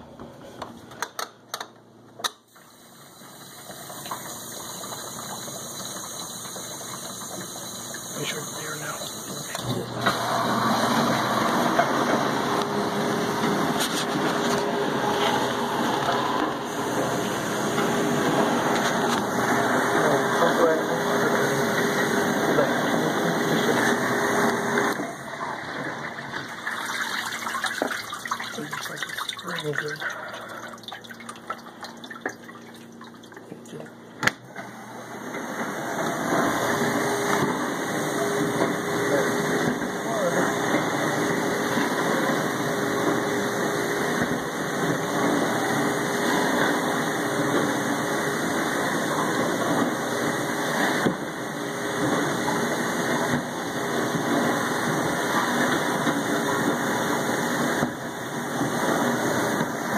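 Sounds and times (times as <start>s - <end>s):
dishwasher motor hum: 0.0s - 59.9s
dishwasher water rushing: 2.4s - 59.9s.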